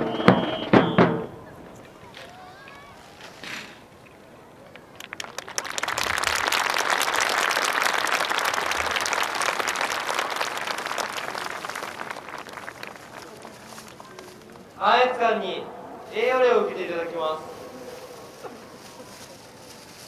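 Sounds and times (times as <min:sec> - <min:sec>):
crowd applauding: 0:00.0 - 0:03.0, 0:04.6 - 0:18.6.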